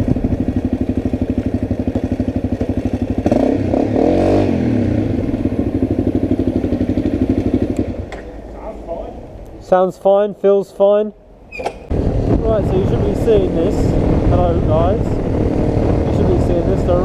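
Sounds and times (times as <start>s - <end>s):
motorcycle engine idling and revving: 0.0s - 9.6s, 11.4s - 17.0s.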